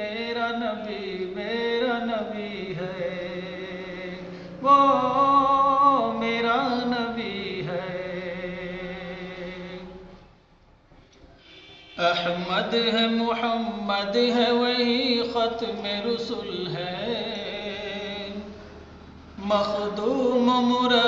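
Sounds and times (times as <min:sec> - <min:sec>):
man singing ornamented notes: 0:00.0 - 0:10.2, 0:11.9 - 0:18.8, 0:19.4 - 0:21.0.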